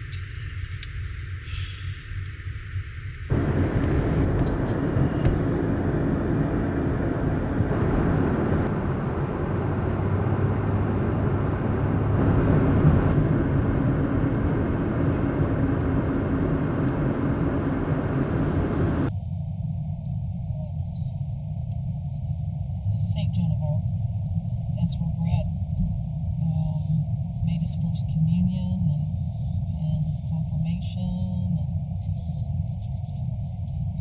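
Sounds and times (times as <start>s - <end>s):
traffic rumble: 0.0s - 34.0s.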